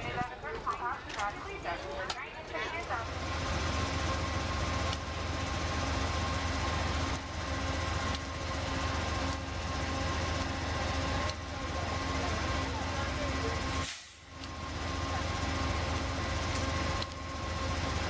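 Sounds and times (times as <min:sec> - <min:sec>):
diesel train engine idling: 0:00.0 - 0:18.0.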